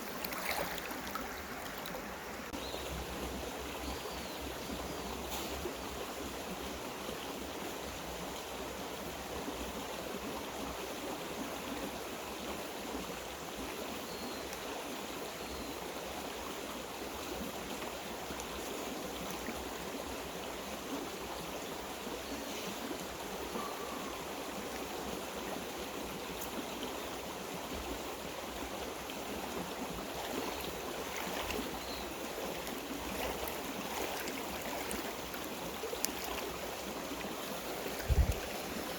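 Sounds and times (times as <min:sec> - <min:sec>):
stream water running over rocks: 0:00.0 - 0:38.9.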